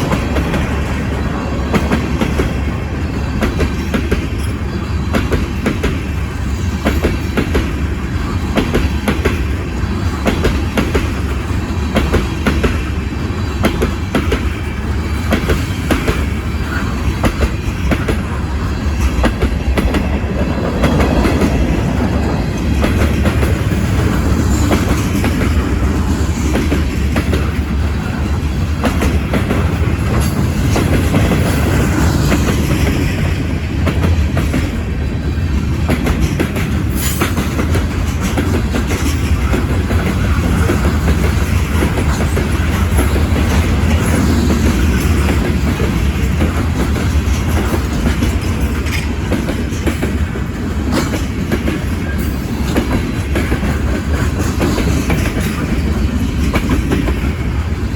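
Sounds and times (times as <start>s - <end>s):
wheels clicking over rail joints: 0.0s - 57.8s
freight train cars rumbling: 0.0s - 57.9s.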